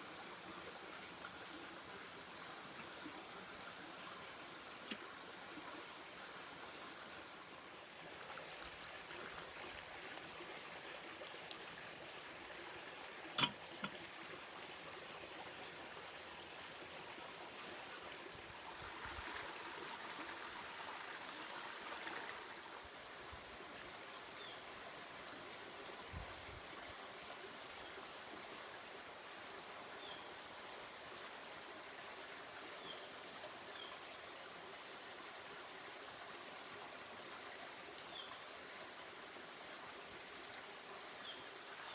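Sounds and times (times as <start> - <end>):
rushing stream water: 0.0 - 41.9.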